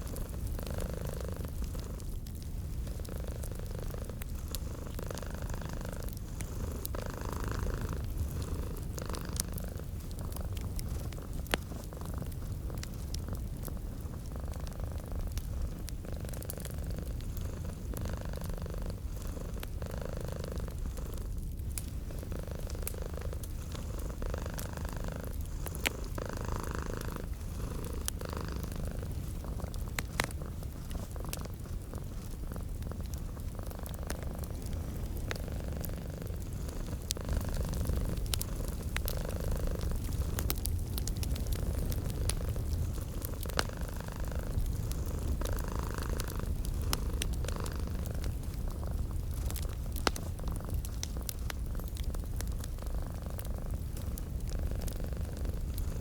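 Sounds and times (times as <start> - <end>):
cat purring: 0.0 - 56.0
fireplace crackling and popping: 0.0 - 56.0.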